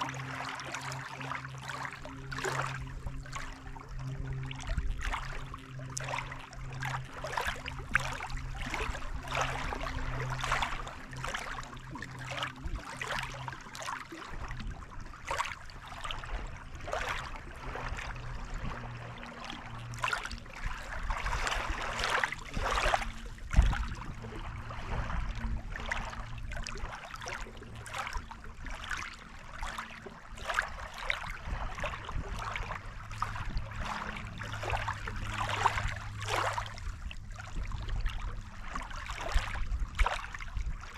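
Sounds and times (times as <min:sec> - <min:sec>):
lake waves lapping at shore: 0:00.0 - 0:40.9
steady low hum: 0:00.0 - 0:40.9.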